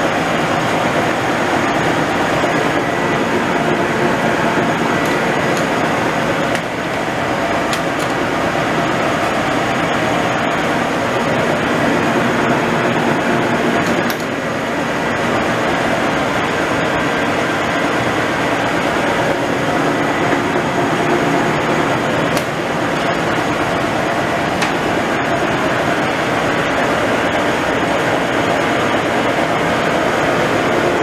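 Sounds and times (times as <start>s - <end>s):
lathe mechanical drone: 0.0s - 31.0s.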